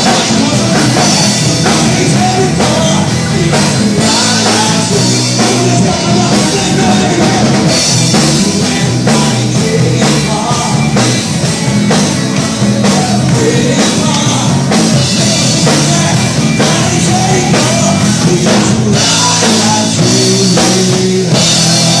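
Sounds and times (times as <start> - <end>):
bass guitar: 0.0 - 22.0
drum kit: 0.0 - 22.0
electric guitar: 0.0 - 22.0.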